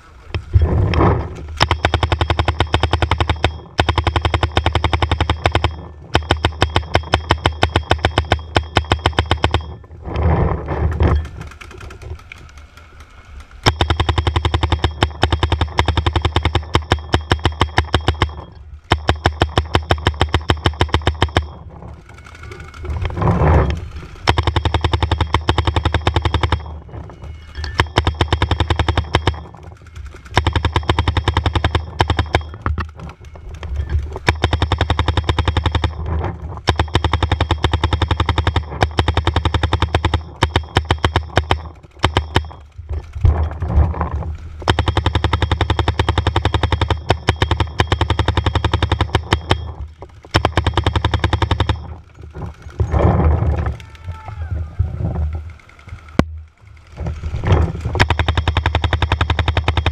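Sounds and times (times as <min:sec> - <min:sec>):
paintball marker rapid fire: 0:01.0 - 0:09.8, 0:11.0 - 0:27.0, 0:27.7 - 0:43.8, 0:44.6 - 0:53.4, 0:57.9 - 0:59.9.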